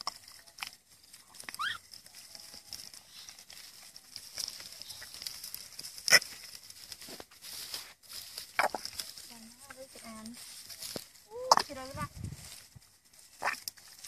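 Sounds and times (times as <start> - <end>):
light rustles and small clicks: 0.0 - 14.0.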